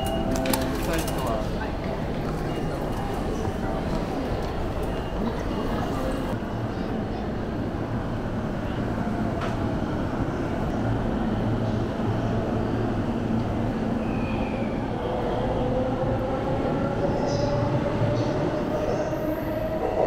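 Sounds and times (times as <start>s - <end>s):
busy railway station din: 0.0s - 20.0s.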